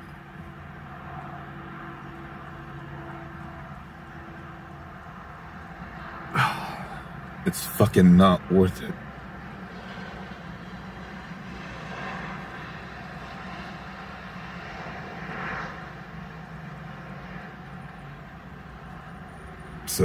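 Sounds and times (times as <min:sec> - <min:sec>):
vehicle hum inside car cabin: 0:00.0 - 0:20.0.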